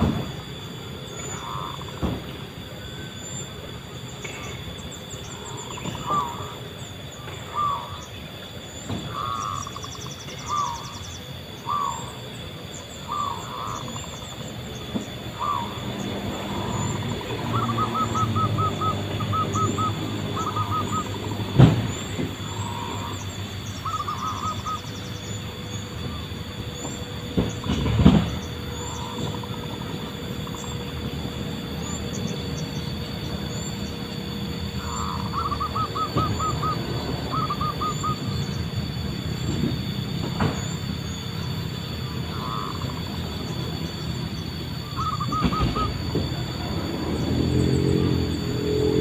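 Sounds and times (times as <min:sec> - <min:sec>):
doves cooing: 0:00.0 - 0:49.0
small birds chirping: 0:00.1 - 0:49.0.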